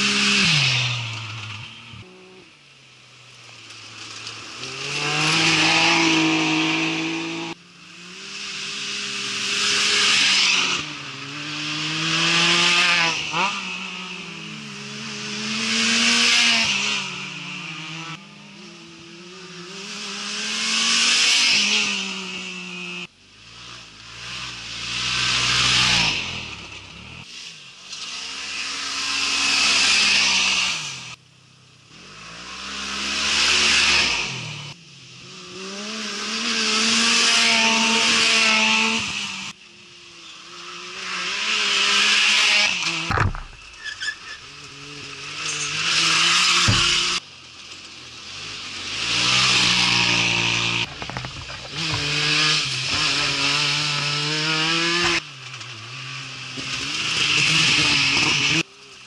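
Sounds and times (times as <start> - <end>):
race vehicles passing at speed: 3.5 - 31.2, 31.9 - 59.0.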